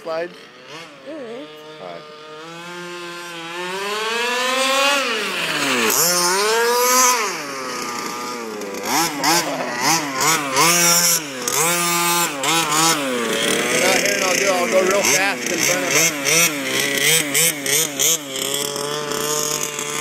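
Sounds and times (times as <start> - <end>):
engine throttle blips: 0.0 - 20.0
two-stroke engine revving: 0.0 - 20.0.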